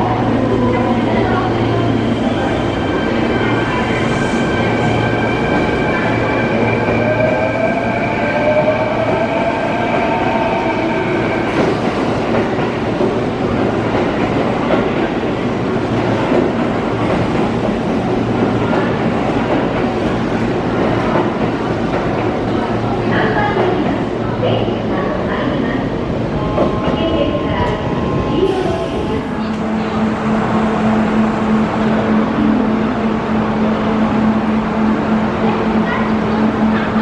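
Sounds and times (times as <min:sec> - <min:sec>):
train cars rumbling on track: 0:00.0 - 0:37.0.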